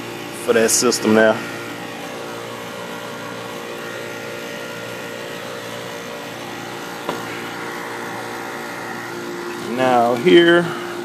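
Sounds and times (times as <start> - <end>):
machine droning and humming: 0.0 - 11.0.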